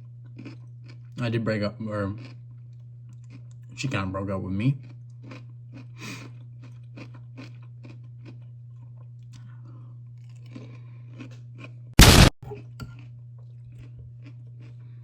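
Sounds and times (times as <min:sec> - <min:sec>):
person chewing crunchy pickles: 0:00.0 - 0:01.4, 0:02.0 - 0:03.8, 0:04.7 - 0:15.0
low electrical hum: 0:00.0 - 0:15.0.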